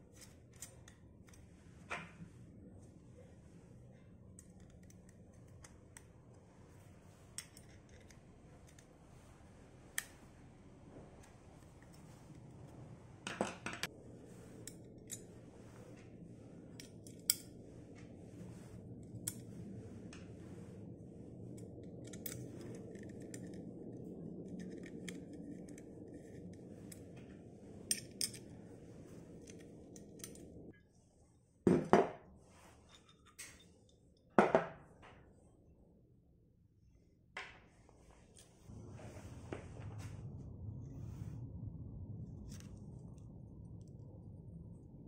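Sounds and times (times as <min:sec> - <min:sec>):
low steady hum: 0:00.0 - 0:45.0.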